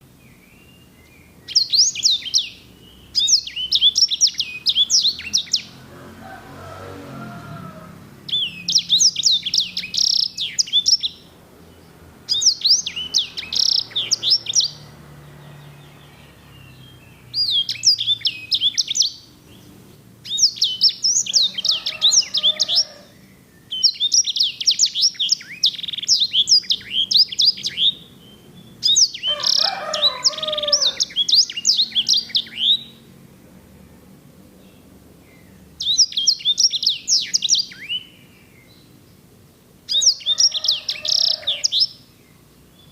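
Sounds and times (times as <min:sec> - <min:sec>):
finch singing trills: 0:00.0 - 0:05.8, 0:08.1 - 0:33.1, 0:34.6 - 0:42.9.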